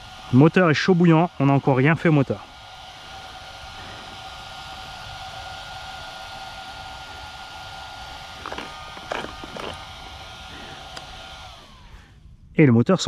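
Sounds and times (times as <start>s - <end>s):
electric fan whirring: 0.0s - 12.6s.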